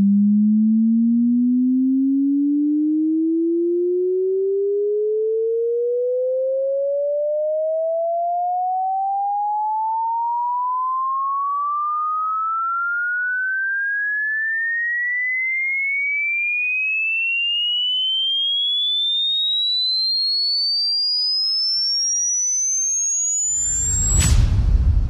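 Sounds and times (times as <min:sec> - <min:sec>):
rising sine tone sweep: 0:00.0 - 0:15.0, 0:17.2 - 0:25.0.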